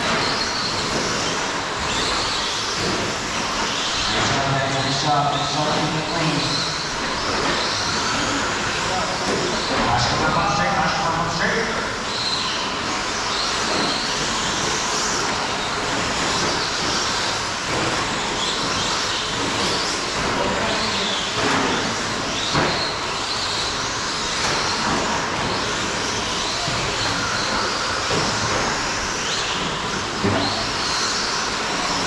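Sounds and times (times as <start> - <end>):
rc truck motors whining: 0.0 - 32.0.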